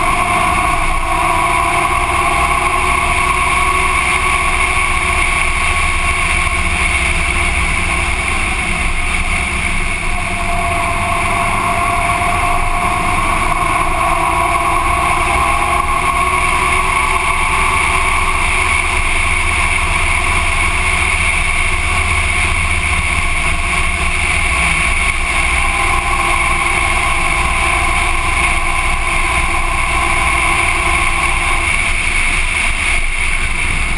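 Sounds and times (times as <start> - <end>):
motorcycle engine cruising: 0.0 - 33.9.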